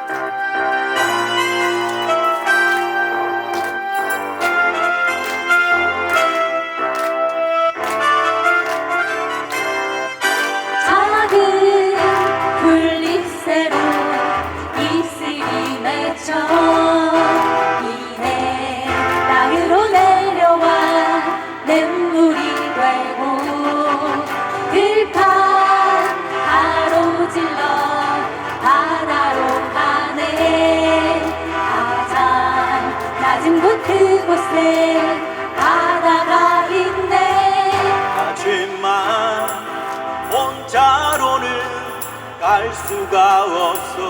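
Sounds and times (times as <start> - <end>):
guitar: 0.0 - 44.0
keyboard: 0.0 - 44.0
group singing in chorus: 7.8 - 44.0.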